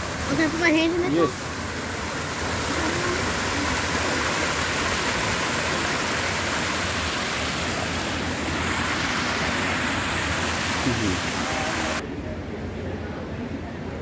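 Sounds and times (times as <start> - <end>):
waterfall splashing into pool: 0.0 - 12.0.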